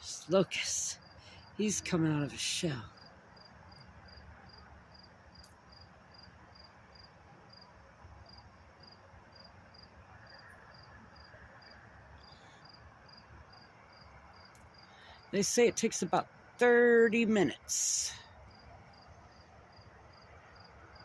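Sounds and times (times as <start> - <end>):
cricket chirping: 0.8 - 15.4, 18.2 - 21.0.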